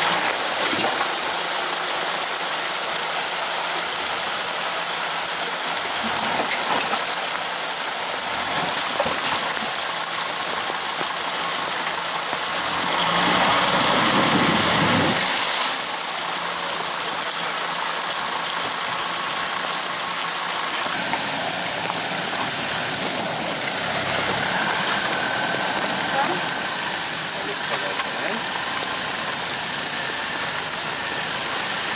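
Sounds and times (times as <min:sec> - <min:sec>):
creek water rushing: 0:00.0 - 0:31.9
vehicle engine running low: 0:00.0 - 0:31.9
wheels splashing through water: 0:00.0 - 0:31.9.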